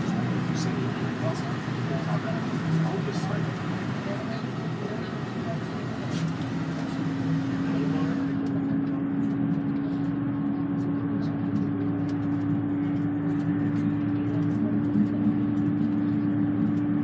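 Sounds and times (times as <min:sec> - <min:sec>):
bus engine and road noise: 0:00.0 - 0:17.0
steady whine: 0:00.0 - 0:17.0.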